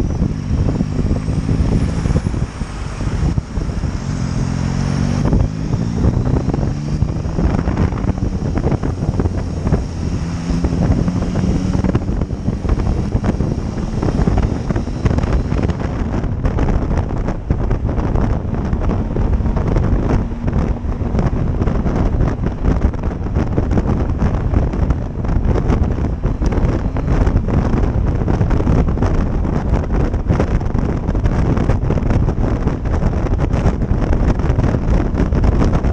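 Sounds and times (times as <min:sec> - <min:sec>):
motorcycle engine running: 0:00.0 - 0:35.9
wind rushing over microphone: 0:00.0 - 0:35.9.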